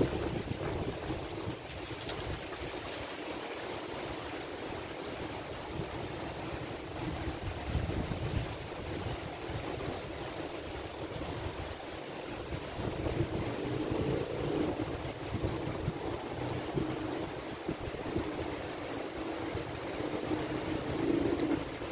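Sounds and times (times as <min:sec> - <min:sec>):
wind gusts buffeting microphone: 0:00.0 - 0:03.0, 0:04.8 - 0:21.9
wind rushing through trees: 0:00.0 - 0:21.9.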